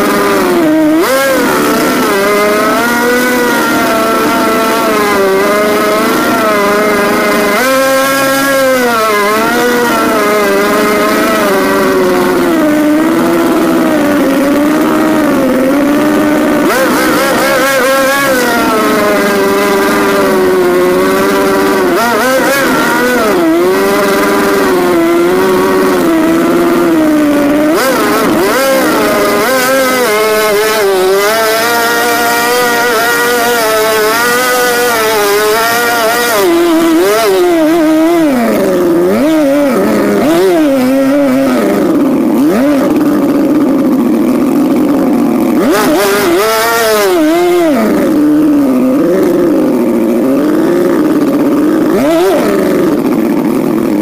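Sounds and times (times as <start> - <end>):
two-stroke outboard engine revving: 0.0 - 54.0.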